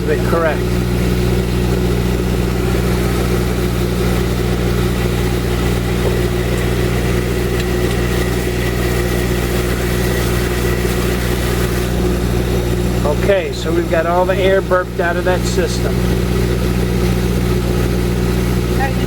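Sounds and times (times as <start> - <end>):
water pump humming: 0.0 - 19.0.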